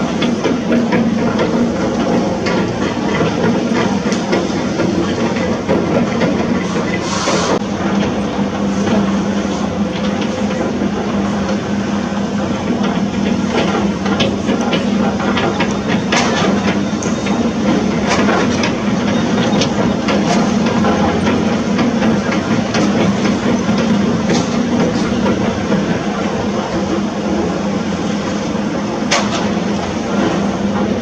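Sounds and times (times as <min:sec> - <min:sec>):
heavy machinery engine hum: 0:00.0 - 0:31.0.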